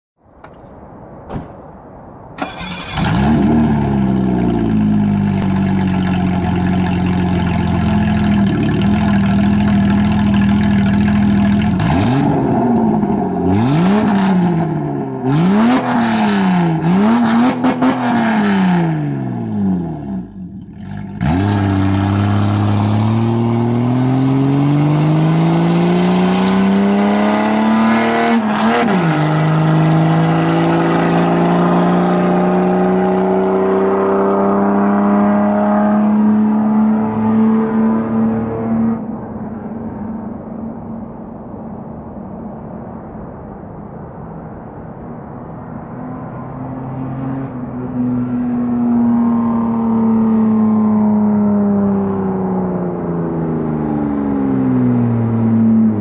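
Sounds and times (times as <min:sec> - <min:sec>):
car engine starting and revving: 0:02.3 - 0:56.0.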